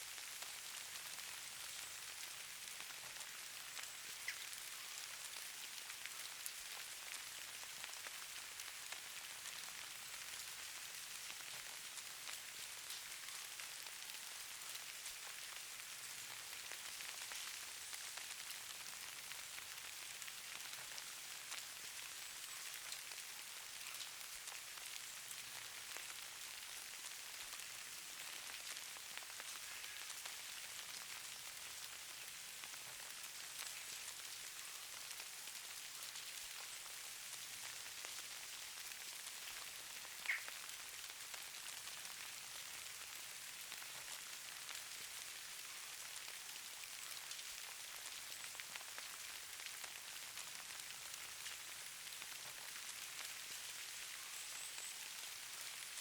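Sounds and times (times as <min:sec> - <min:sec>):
rain pattering softly: 0:00.0 - 0:56.0.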